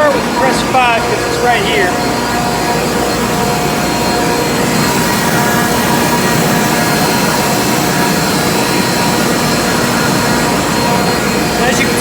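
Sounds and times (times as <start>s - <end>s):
refrigeration compressors droning: 0.0s - 12.0s.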